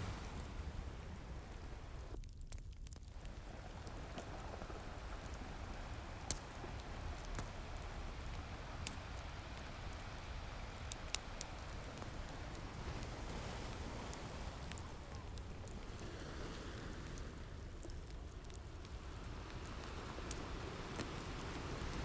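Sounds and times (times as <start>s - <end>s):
ocean surf: 0.0s - 2.2s, 3.2s - 22.0s
wood fire crackling: 0.0s - 22.0s.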